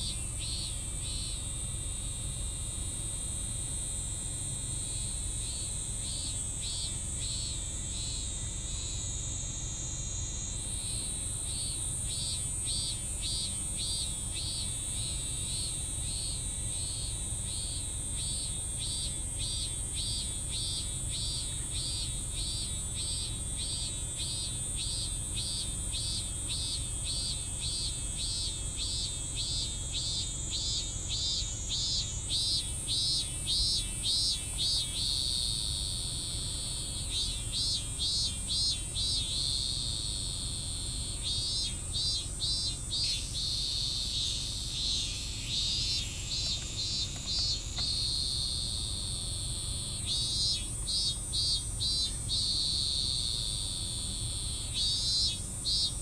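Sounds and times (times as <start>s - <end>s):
cicada calling in pulses: 0.0s - 56.0s
high-pitched insect drone: 0.0s - 56.0s.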